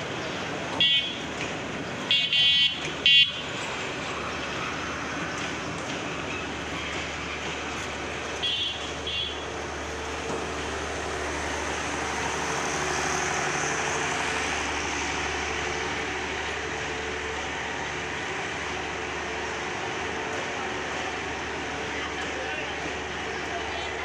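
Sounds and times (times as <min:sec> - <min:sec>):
train coaches rumbling: 0:00.0 - 0:24.0.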